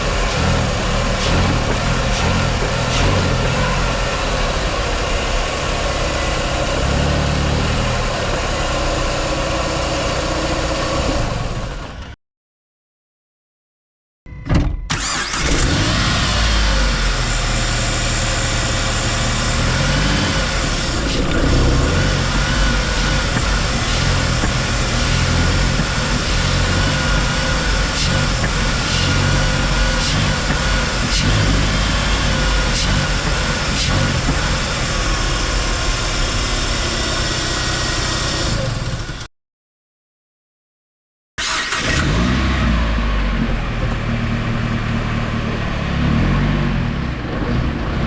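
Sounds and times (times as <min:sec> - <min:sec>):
car engine revving: 0:00.0 - 0:11.7, 0:14.9 - 0:39.3, 0:41.4 - 0:48.0.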